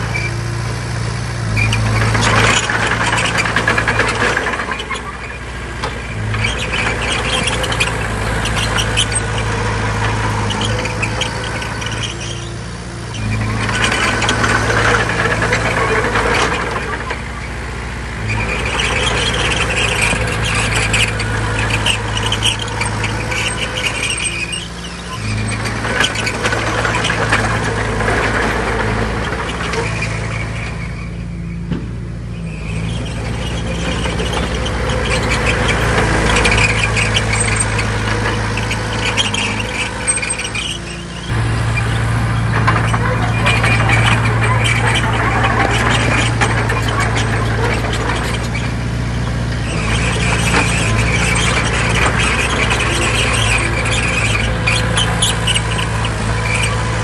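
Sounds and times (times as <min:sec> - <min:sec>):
high squeal: 0:00.0 - 0:00.7, 0:01.5 - 0:57.0
heavy diesel machinery engine: 0:00.0 - 0:57.0.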